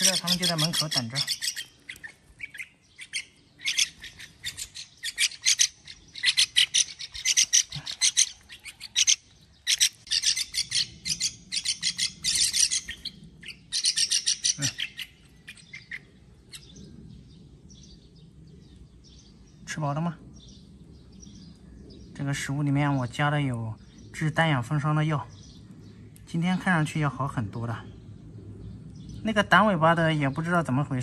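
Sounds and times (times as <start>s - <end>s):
young birds chirping harshly: 0.0s - 31.0s.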